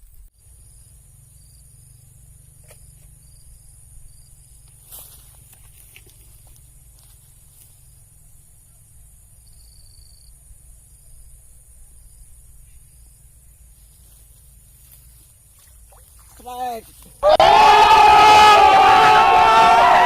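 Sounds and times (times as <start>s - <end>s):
high insect drone: 0.4s - 17.2s.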